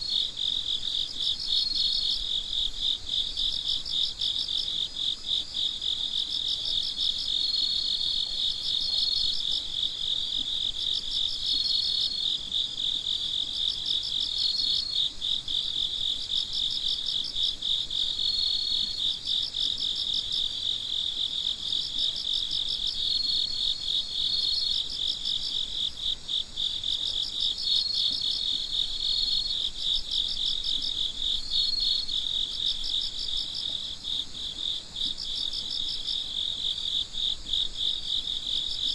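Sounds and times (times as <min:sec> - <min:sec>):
crickets chirping: 0:00.0 - 0:38.9
high steady insect trill: 0:00.0 - 0:38.9.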